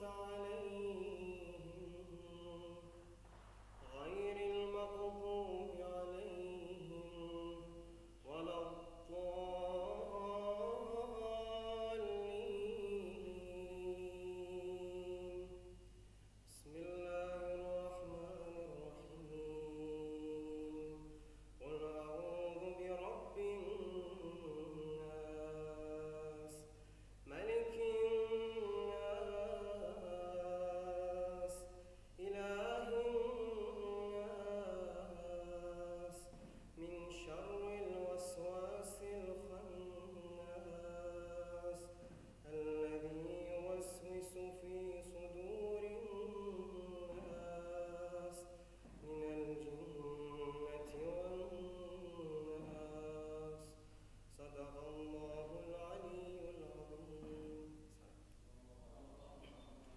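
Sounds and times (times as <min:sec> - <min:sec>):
man chanting melodically: 0:00.0 - 0:03.1, 0:03.8 - 0:15.7, 0:16.5 - 0:59.6.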